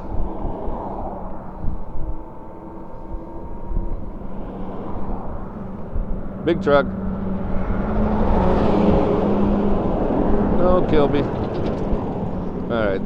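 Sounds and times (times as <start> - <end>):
vehicles passing: 0.0 - 13.0
wind and road noise: 0.0 - 13.0.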